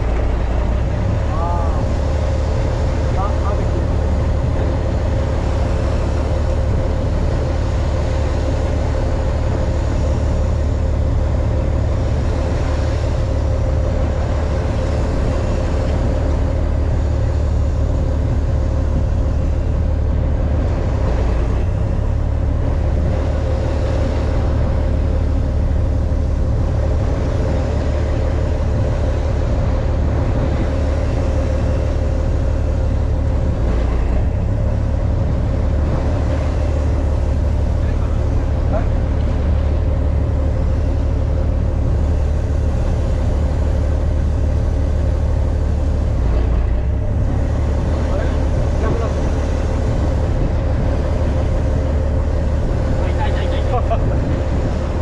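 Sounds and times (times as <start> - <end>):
boat engine drone: 0.0 - 55.0
steady hum: 0.0 - 55.0.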